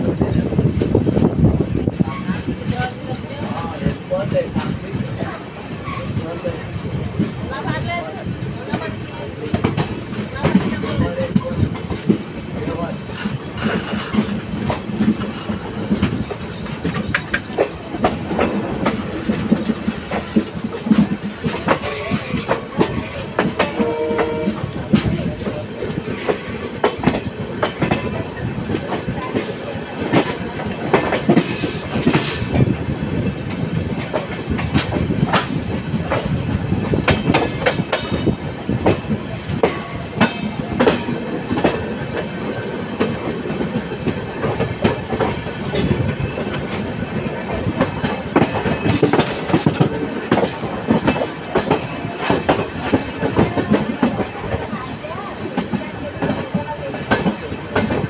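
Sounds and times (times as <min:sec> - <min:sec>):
train wheels rumbling: 0:00.0 - 0:58.0
wheels clacking on rail joints: 0:08.6 - 0:58.0.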